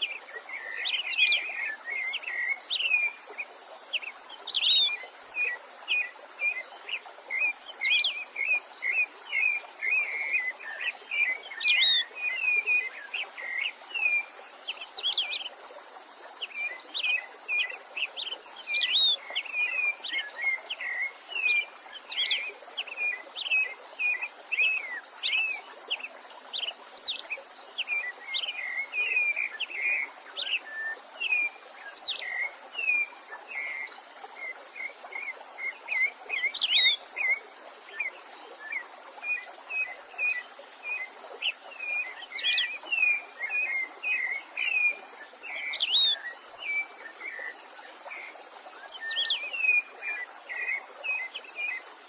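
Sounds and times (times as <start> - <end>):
background hiss: 0.0 - 52.0
songbirds singing: 0.0 - 52.0.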